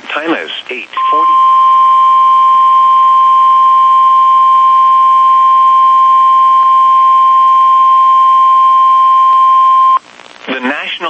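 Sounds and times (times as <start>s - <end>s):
loud steady alarm beep: 1.0s - 10.0s.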